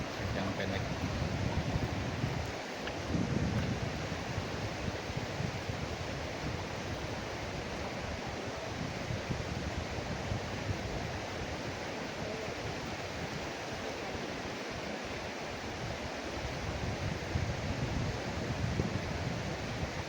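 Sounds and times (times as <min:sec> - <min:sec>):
river rushing: 0:00.0 - 0:20.0
wind buffeting microphone: 0:00.0 - 0:20.0.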